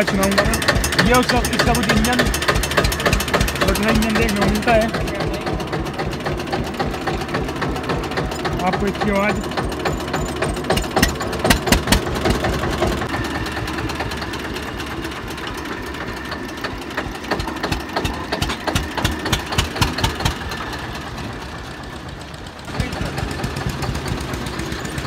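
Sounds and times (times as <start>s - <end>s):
diesel tractor engine knocking: 0.0s - 25.0s.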